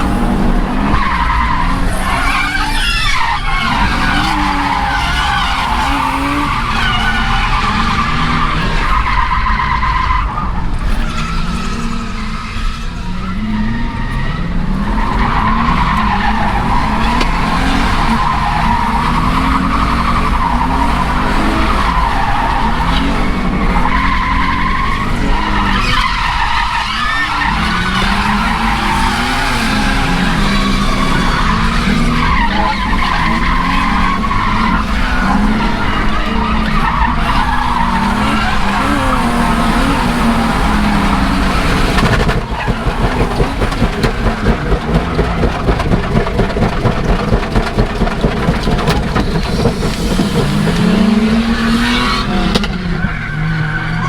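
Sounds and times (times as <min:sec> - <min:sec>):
car engine revving: 0:00.0 - 0:54.0
tyres squealing: 0:00.0 - 0:54.0.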